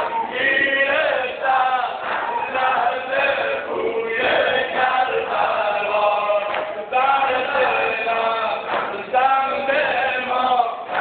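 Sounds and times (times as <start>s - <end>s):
men chanting together: 0.0s - 11.0s.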